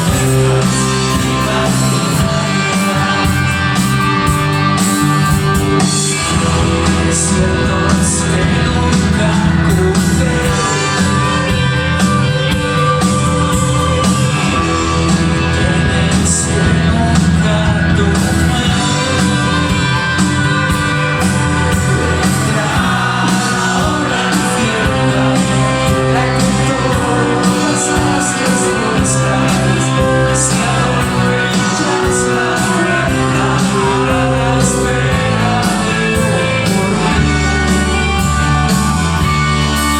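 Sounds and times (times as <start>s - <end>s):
lead singer singing: 0.0s - 39.9s
live rock band playing: 0.0s - 39.9s.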